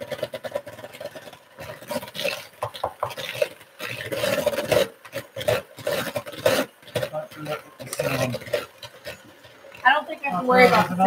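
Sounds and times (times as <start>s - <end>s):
utensils stirring and scraping: 0.0s - 11.0s.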